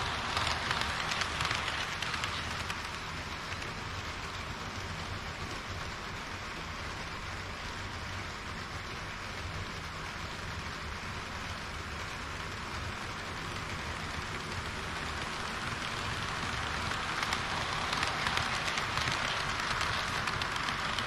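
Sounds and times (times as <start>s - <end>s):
model trains rolling on track: 0.0s - 21.0s.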